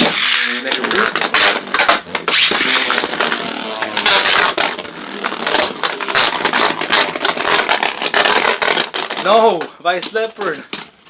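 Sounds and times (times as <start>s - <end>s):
spinning tops grinding whir: 0.0s - 10.8s.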